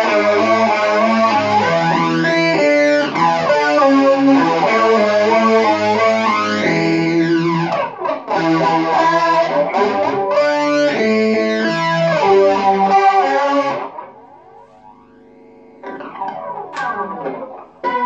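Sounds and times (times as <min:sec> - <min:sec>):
electric guitar chords with effects: 0:00.0 - 0:18.0.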